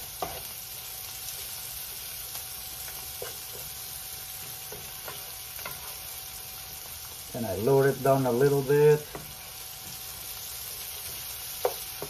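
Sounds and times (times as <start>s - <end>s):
onion and garlic sizzling: 0.0s - 12.0s.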